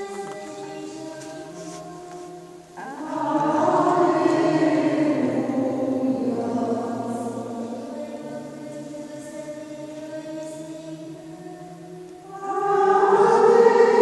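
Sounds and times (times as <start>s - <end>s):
choir singing slow chant: 0.0s - 14.0s.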